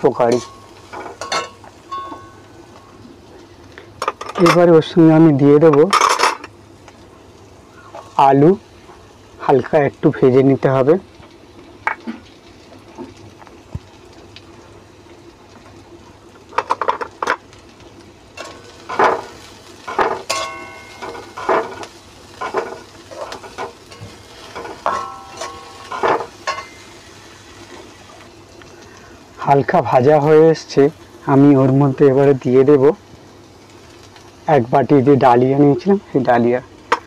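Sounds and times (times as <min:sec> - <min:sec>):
faint sizzle: 0:00.0 - 0:37.0.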